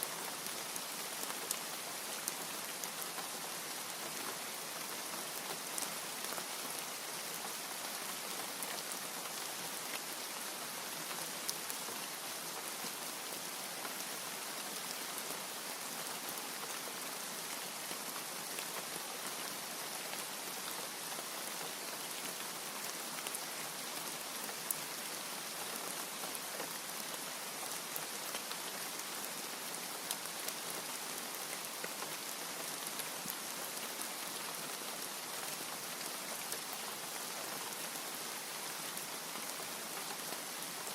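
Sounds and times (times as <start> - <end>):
rain hiss: 0.0 - 40.9.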